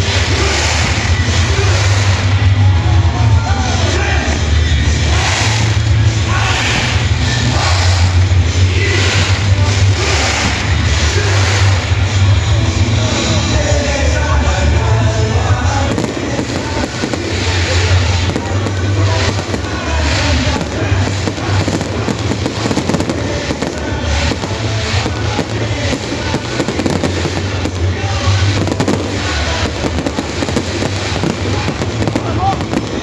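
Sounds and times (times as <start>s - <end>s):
fireworks bangs and crackles: 0.0s - 33.0s
loud music: 0.0s - 33.0s.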